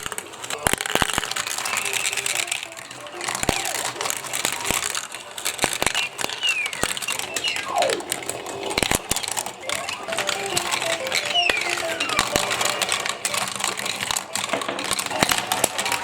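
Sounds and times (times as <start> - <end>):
marble spinning whir: 0.0 - 16.0
marbles rolling and clacking: 0.0 - 16.0.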